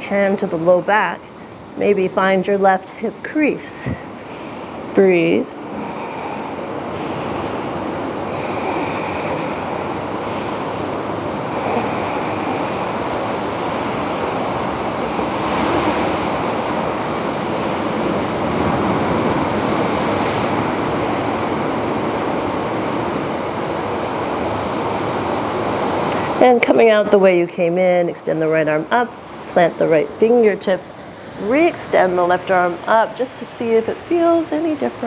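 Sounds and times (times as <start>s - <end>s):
ocean surf washing: 0.0s - 35.0s.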